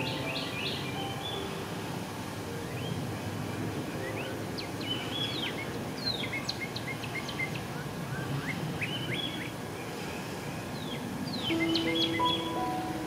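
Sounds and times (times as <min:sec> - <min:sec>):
songbird singing: 0:00.0 - 0:09.7, 0:10.7 - 0:13.0.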